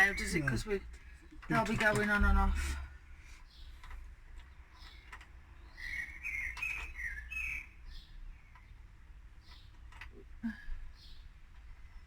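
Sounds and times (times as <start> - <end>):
bird chirping: 0.0 - 3.8, 4.5 - 9.9, 10.9 - 12.0.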